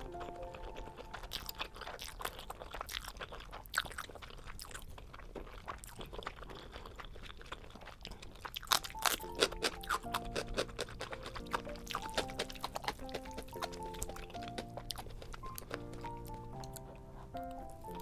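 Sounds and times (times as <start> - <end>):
person chewing and biting: 0.0 - 18.0
crunchy sticky mouth clicks: 1.1 - 18.0.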